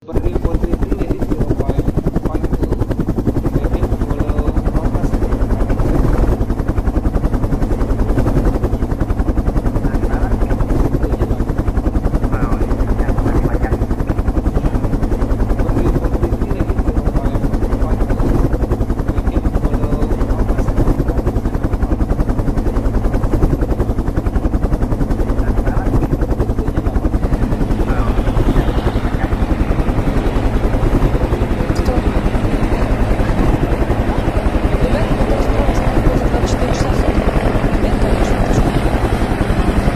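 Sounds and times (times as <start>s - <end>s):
helicopter rotor chop: 0.0s - 39.9s.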